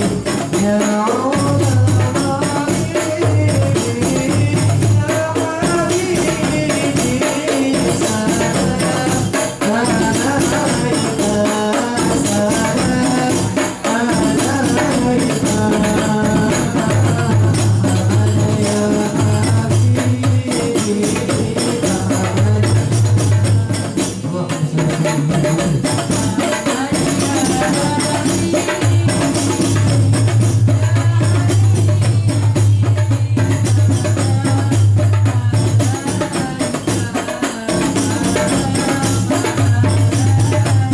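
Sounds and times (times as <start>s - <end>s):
frame drums beaten by hand: 0.0s - 40.9s
men singing a chanted melody: 0.0s - 40.9s.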